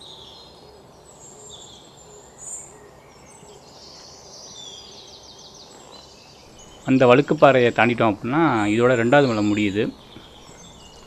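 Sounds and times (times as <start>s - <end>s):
bird trill: 0.0s - 11.0s
steady faint hiss: 0.0s - 11.0s
wild birds chirping: 0.0s - 11.0s.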